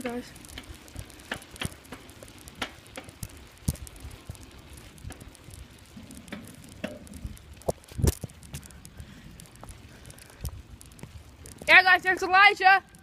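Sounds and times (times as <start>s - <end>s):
bicycle rattling: 0.0s - 13.0s.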